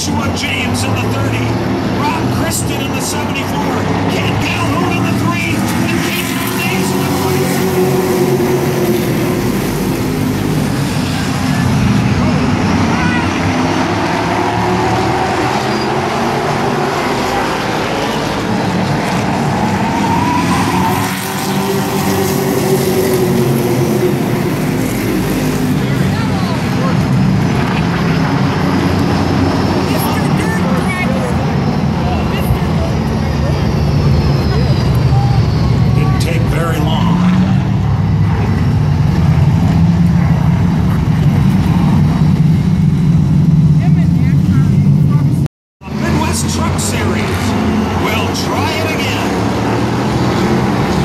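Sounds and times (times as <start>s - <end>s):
racing truck engines: 0.0s - 51.0s.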